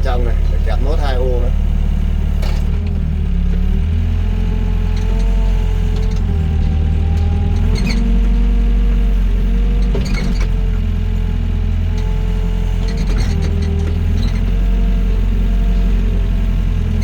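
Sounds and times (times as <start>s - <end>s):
excavator diesel engine: 0.0s - 17.0s.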